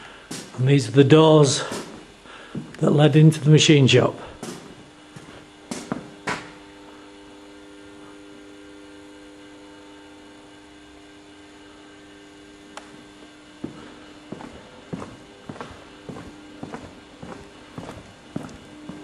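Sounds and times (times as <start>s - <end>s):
low multi-tone hum: 0.0s - 19.0s.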